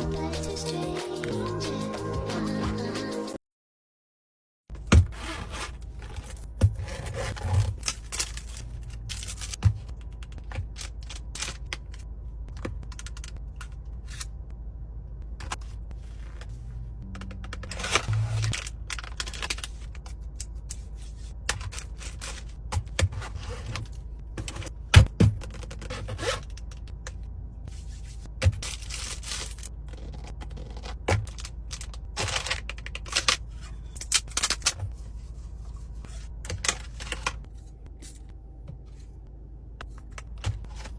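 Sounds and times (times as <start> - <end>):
steady low hum: 5.0 - 40.9.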